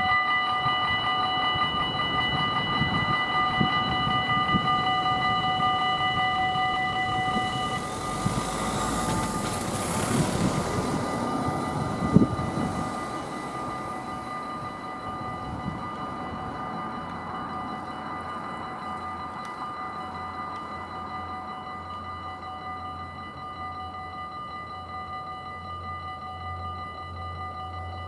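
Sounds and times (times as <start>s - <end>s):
level-crossing warning bells: 0.0s - 28.0s
train passing over rails: 0.0s - 28.0s.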